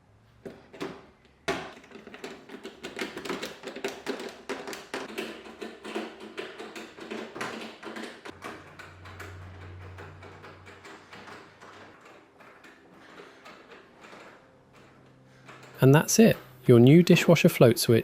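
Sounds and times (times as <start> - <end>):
hand tools clicking and rattling: 1.5 - 16.6.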